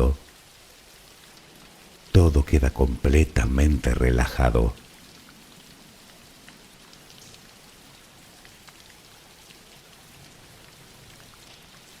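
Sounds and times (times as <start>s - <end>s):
faint raindrop ticks: 0.0s - 12.0s
soft rain hiss: 0.0s - 12.0s.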